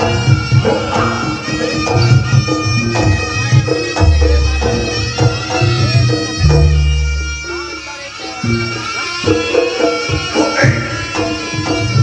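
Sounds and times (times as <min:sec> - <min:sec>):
hand drum strokes: 0:00.0 - 0:12.0
reedy shawm melody: 0:00.0 - 0:12.0.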